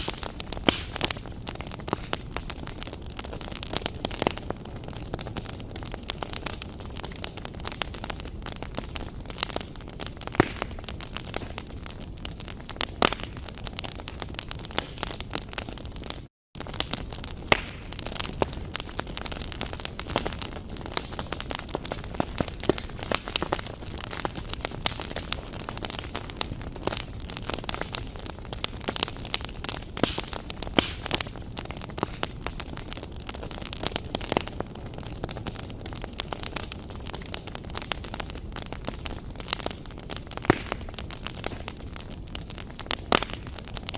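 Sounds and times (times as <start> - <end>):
fire crackling and popping: 0.0 - 43.9
steady fire hiss: 0.0 - 43.9.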